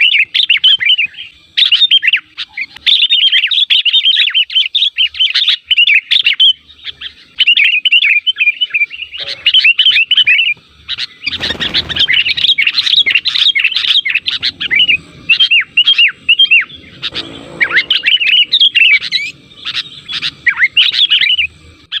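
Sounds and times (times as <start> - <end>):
bulbuls chirping: 0.0 - 22.0.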